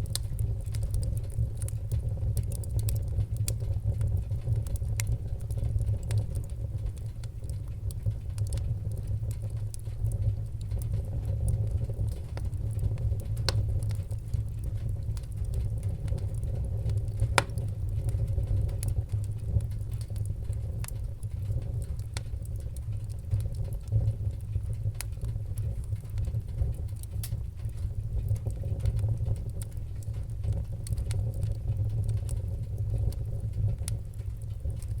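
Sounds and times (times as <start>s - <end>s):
burning wood crackling and popping: 0.0s - 35.0s
low rumble of flames: 0.0s - 35.0s.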